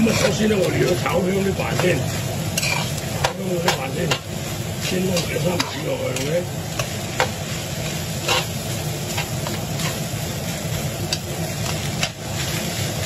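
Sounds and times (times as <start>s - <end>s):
fried rice sizzling in a pan: 0.0s - 13.0s.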